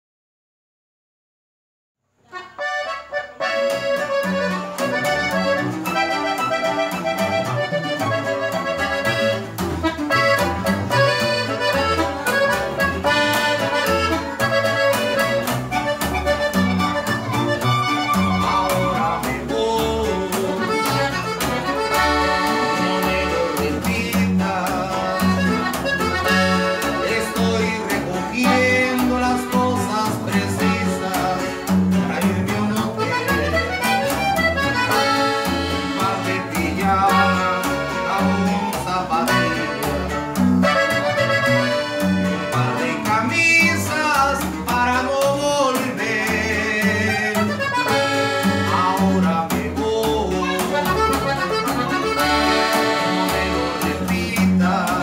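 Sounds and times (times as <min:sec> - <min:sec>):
button accordion: 0:02.2 - 0:55.0
plucked upright bass: 0:02.3 - 0:55.0
strummed twelve-string guitar: 0:02.3 - 0:55.0.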